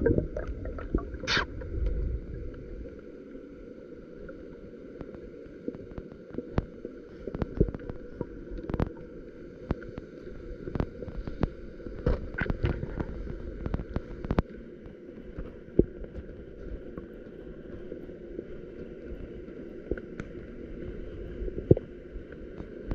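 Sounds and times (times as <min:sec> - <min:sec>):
low water noise: 0:00.0 - 0:22.9.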